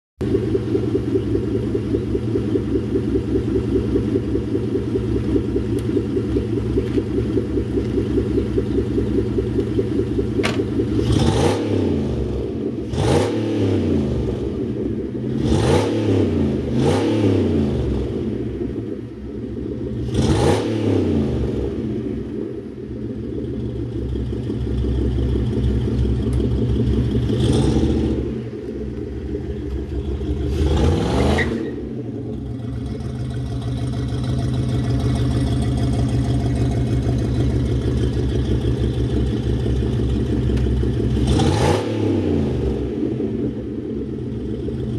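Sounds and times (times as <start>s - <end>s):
car engine idling and revving: 0.2s - 44.9s.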